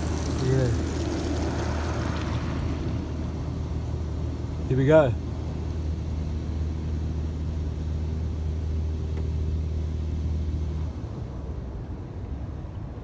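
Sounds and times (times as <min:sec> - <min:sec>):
car wash machinery humming: 0:00.0 - 0:13.0.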